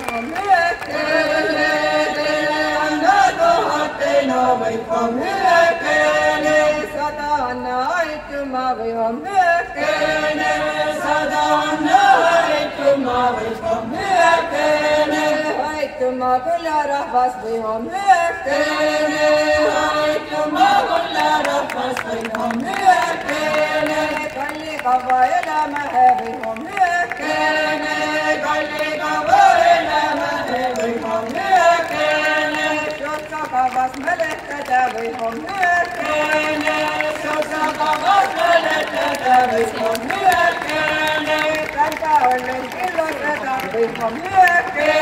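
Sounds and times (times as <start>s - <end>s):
group singing folk chant: 0.0s - 45.0s.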